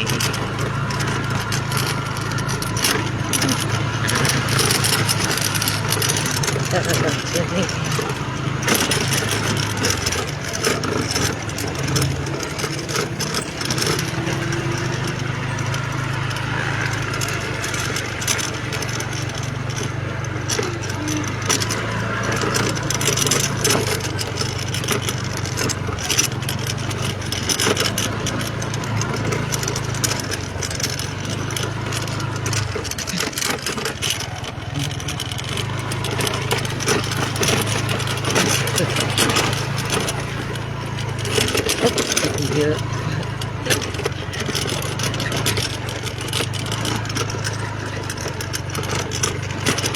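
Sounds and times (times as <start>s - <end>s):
road and wind noise: 0.0s - 49.9s
small rattles and clicks: 0.0s - 49.9s
vehicle engine hum: 0.0s - 49.9s.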